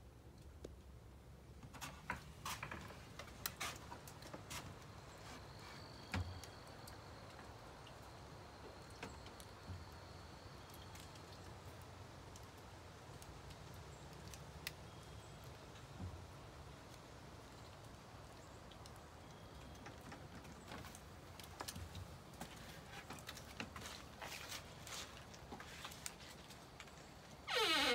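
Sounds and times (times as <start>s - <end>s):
light rain falling: 0.0s - 27.9s.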